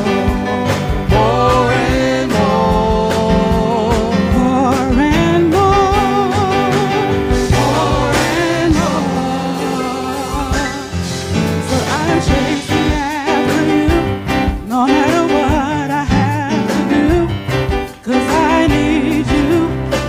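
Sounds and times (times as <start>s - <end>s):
live band with drums: 0.0s - 20.0s
women singing gospel in harmony: 0.9s - 17.4s, 18.0s - 20.0s.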